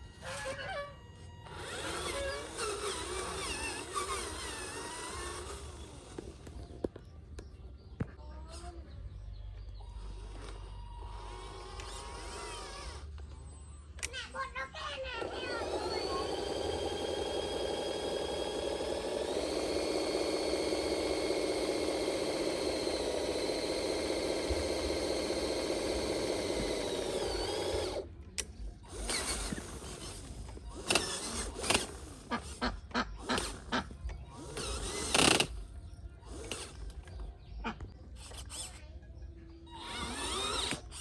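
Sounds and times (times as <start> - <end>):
small electric motor whining: 0.0 - 7.0, 9.6 - 38.9, 39.5 - 41.0.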